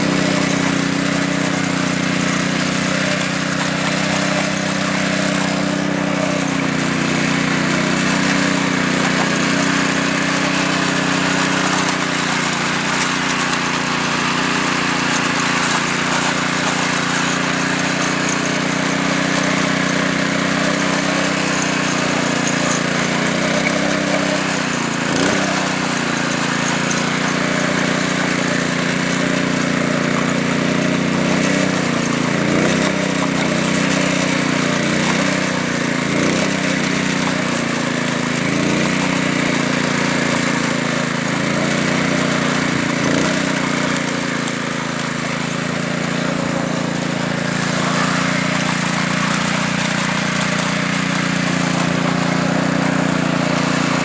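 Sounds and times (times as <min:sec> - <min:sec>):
power trowel engine running: 0:00.0 - 0:54.0.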